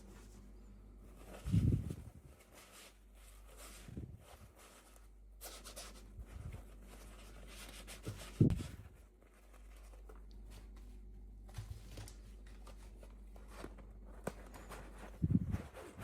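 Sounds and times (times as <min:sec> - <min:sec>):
packaging rustling and scraping: 0:01.1 - 0:16.0.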